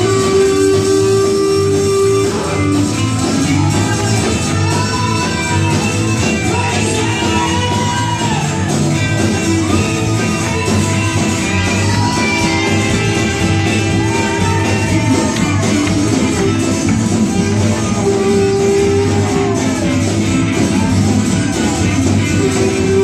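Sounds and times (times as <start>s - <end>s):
gospel band playing: 0.0s - 23.0s
people singing: 0.0s - 23.0s.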